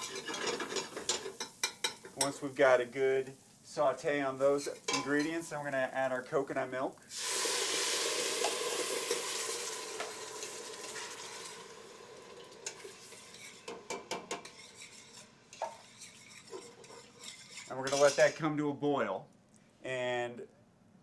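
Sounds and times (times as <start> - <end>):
loud sizzling in a pan: 0.0 - 18.3.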